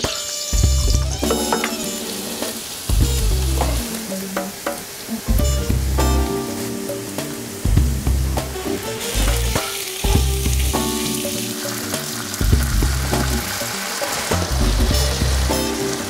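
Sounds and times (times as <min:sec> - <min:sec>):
food sizzling in a pan: 0:00.0 - 0:07.8, 0:08.4 - 0:16.0
background music with bass line: 0:00.5 - 0:02.0, 0:02.9 - 0:04.0, 0:05.3 - 0:16.0.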